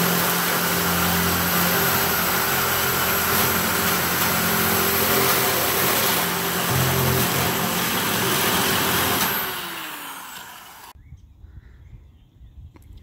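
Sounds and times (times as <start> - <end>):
electric shears cutting metal: 0.0 - 11.0
motor winding down: 0.0 - 11.0.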